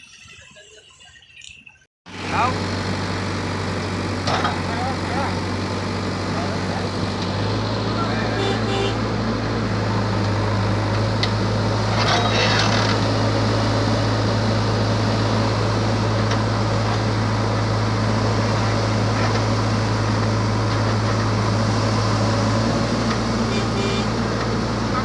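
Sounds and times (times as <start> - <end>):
truck engine running: 2.1 - 25.0.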